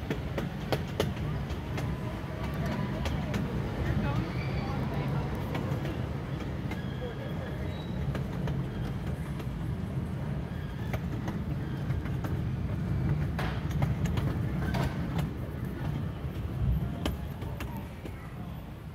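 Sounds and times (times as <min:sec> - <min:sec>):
wheels clicking and clanking: 0:00.0 - 0:18.2
ride train rumbling on track: 0:00.0 - 0:18.9.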